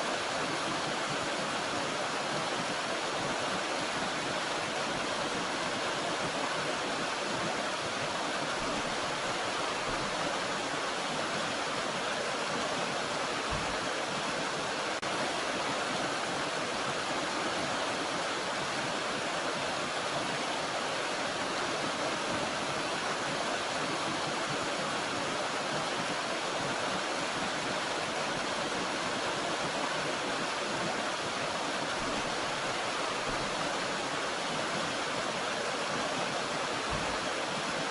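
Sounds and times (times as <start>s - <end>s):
stream and waterfall rushing: 0.0s - 37.9s.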